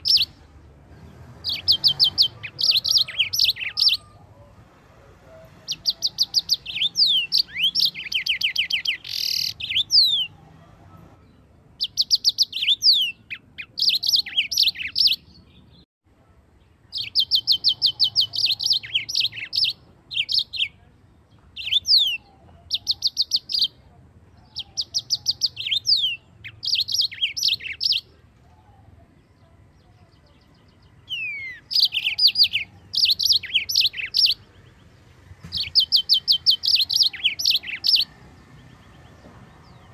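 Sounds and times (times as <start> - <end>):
canary singing rapid trills: 0.0 - 0.6, 1.3 - 4.5, 5.4 - 10.4, 11.7 - 15.8, 16.8 - 20.8, 21.6 - 28.2, 28.8 - 39.9.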